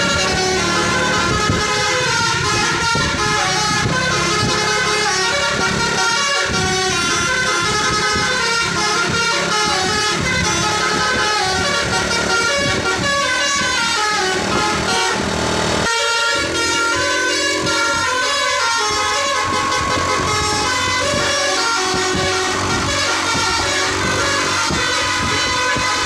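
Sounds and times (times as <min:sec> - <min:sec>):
bus air horn melody: 0:00.0 - 0:26.0.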